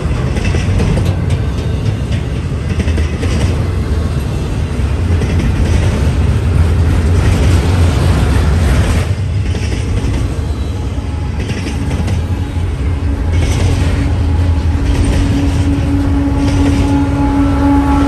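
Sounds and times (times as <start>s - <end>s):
diesel locomotive engine hum: 0.0s - 18.0s
steel wheels rumbling on rail: 0.0s - 18.0s
train clatter: 0.0s - 18.0s.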